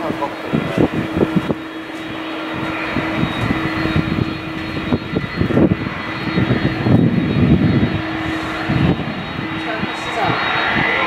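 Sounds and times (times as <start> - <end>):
jet engine whine: 0.0 - 11.0
low rumbling: 0.0 - 11.0.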